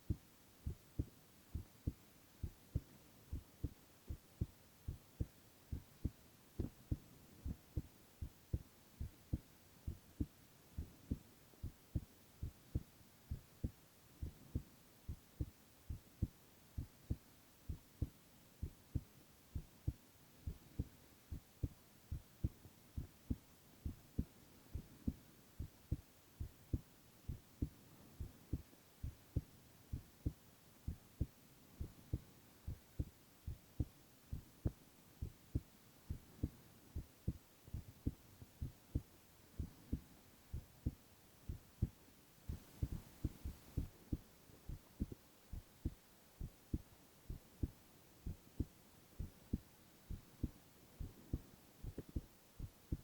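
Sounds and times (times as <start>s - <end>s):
heartbeat thumps: 0.0s - 53.0s.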